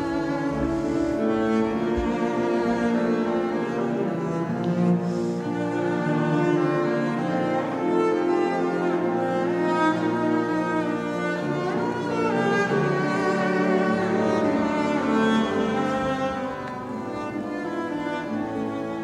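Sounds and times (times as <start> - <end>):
bowed double bass melody: 0.0 - 19.0.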